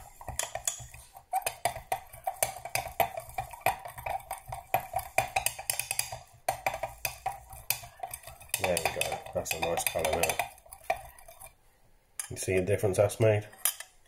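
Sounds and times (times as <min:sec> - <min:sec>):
wooden stick scraping glass jug: 0:00.0 - 0:11.6.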